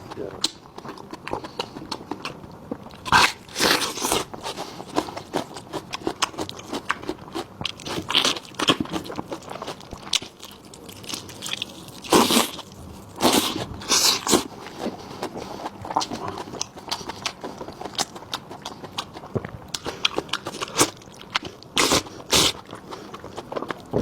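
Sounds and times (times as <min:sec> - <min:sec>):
wet chewing and smacking: 0:00.0 - 0:24.0.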